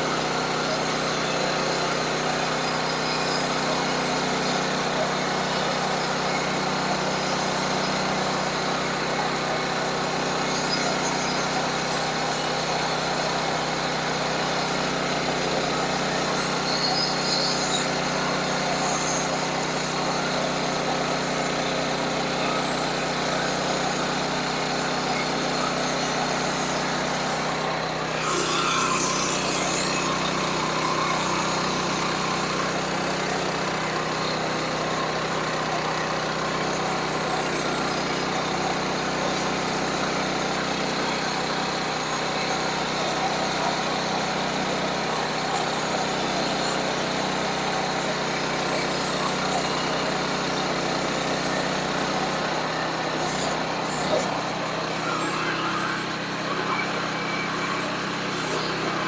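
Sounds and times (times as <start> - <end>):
saw cutting log: 0.0 - 59.0
sawmill engine running: 0.0 - 59.0.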